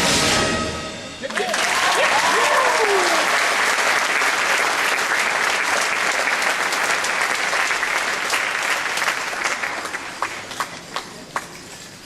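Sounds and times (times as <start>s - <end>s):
audience applauding: 1.2s - 12.0s.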